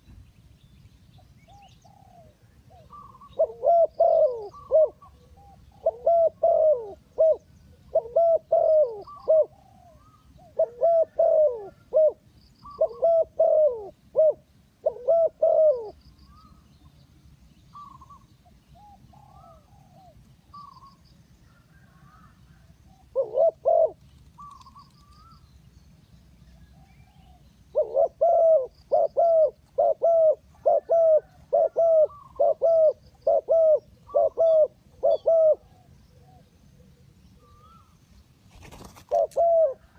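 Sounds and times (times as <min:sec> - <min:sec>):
doves cooing: 0:01.8 - 0:16.6, 0:18.8 - 0:20.9, 0:21.5 - 0:25.4, 0:26.6 - 0:37.9, 0:38.6 - 0:39.9.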